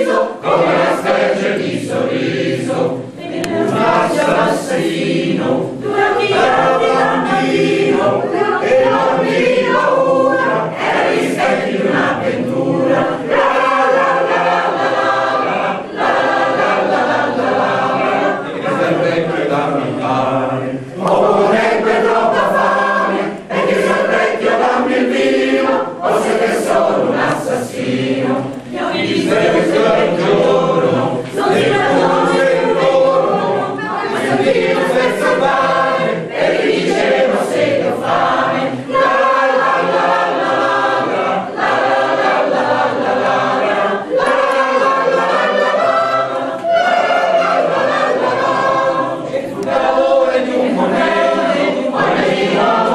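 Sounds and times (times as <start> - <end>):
mixed choir singing: 0.0 - 52.9.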